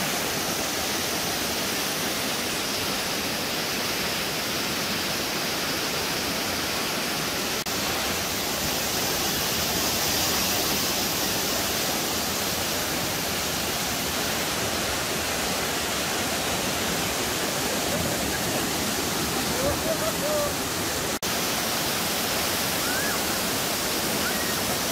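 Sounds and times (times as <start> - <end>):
whitewater rushing over rock: 0.0 - 24.9.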